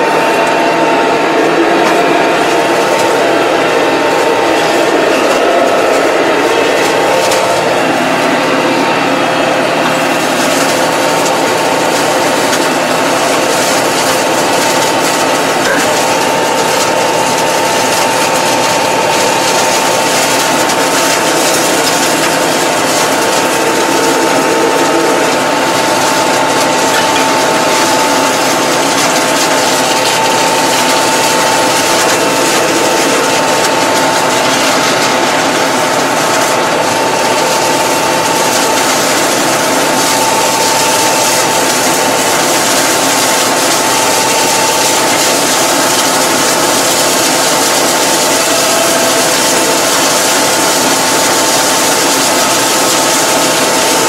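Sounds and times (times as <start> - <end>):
steady high whine: 0.0 - 54.0
tractor engine running: 0.0 - 54.0.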